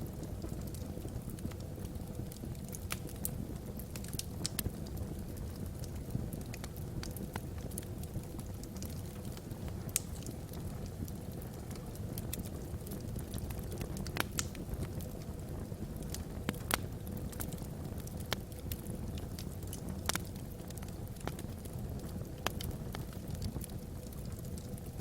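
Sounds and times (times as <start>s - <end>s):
burning logs crackling and popping: 0.0s - 25.0s
fire rumbling: 0.0s - 25.0s.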